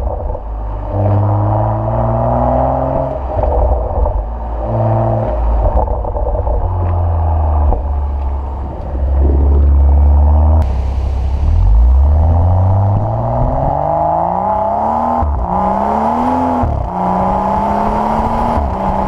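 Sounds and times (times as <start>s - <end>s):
car engine revving: 0.0s - 19.0s
exhaust crack: 0.0s - 19.0s.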